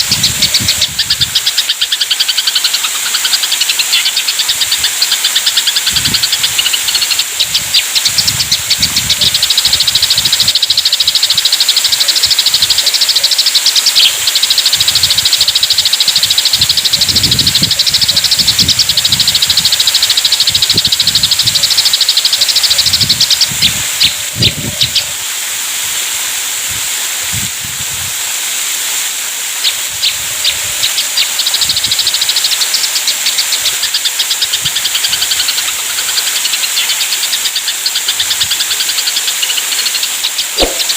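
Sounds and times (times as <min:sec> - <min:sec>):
sparrows chattering: 0:00.0 - 0:26.4, 0:28.7 - 0:40.9.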